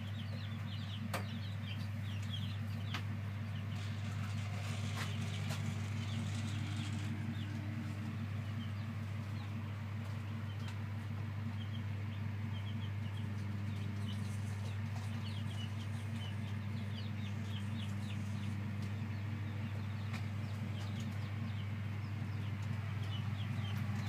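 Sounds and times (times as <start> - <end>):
chicks peeping: 0.0 - 24.0
steady low hum: 0.0 - 24.0.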